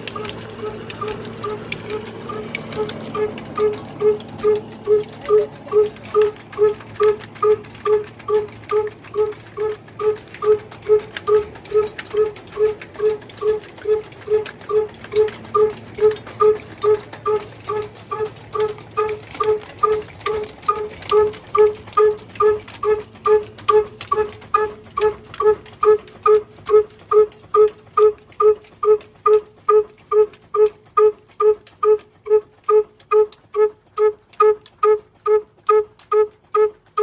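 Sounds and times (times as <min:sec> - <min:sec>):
diesel engine running slowly: 0:00.0 - 0:37.0.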